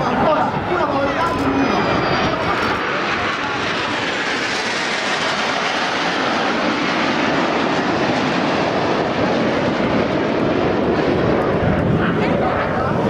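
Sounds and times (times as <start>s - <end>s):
jet aircraft flying past: 0.0s - 13.0s.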